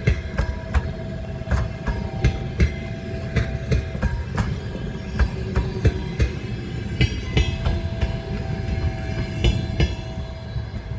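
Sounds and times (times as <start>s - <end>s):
wheels knocking over rail joints: 0.0s - 10.4s
train rumbling past: 0.0s - 10.9s.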